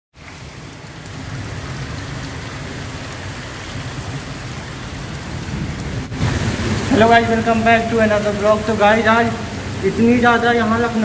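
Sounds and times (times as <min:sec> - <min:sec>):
heavy rain pouring: 0:00.2 - 0:11.0.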